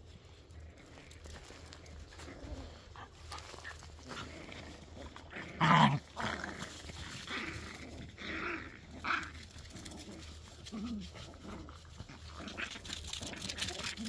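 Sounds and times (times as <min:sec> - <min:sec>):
puppies making vocal noises: 0:00.4 - 0:14.0.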